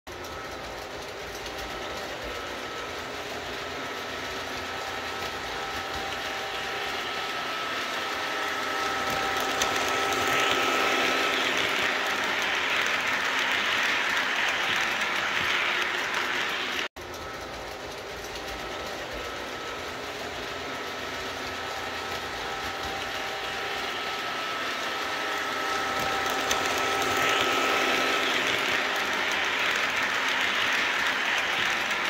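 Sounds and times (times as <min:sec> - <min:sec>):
model train wheels rumbling on rails: 0:00.1 - 0:32.0.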